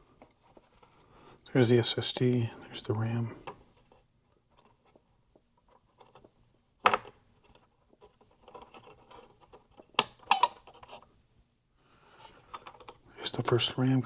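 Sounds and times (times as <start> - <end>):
faint scraping and handling: 0.0 - 6.6, 7.2 - 11.2, 12.0 - 14.0.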